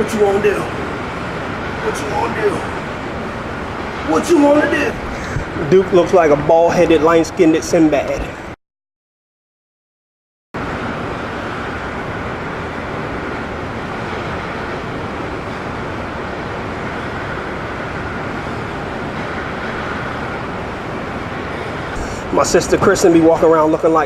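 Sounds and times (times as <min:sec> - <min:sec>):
steady background noise: 0:00.0 - 0:08.6, 0:10.6 - 0:24.0.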